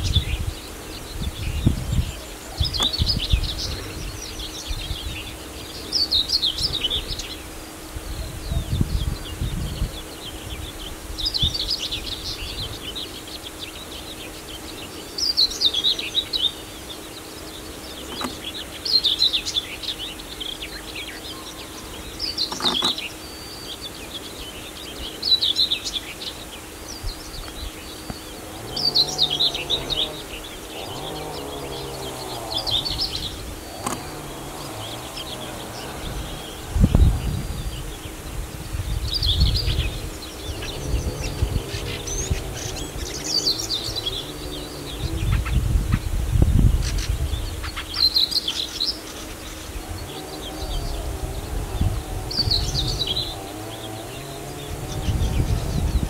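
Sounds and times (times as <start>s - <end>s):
songbird singing falling phrase: 0.0s - 7.5s, 8.1s - 56.0s
faint steady hum: 0.0s - 56.0s.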